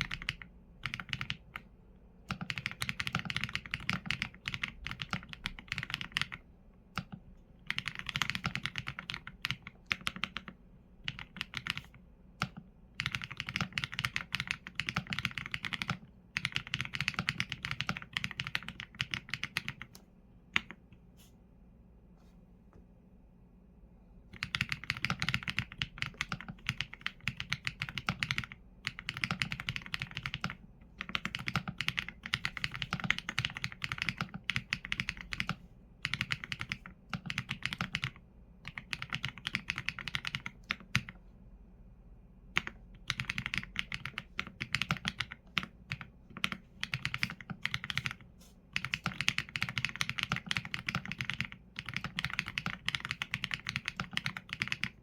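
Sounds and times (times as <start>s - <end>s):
mechanical keyboard typing: 0.0s - 6.4s, 7.0s - 20.0s, 20.6s - 20.8s, 24.3s - 41.2s, 42.6s - 55.0s.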